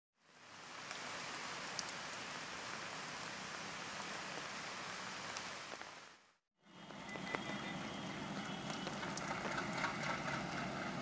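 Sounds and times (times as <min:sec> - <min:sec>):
steady rain: 0:00.2 - 0:11.0.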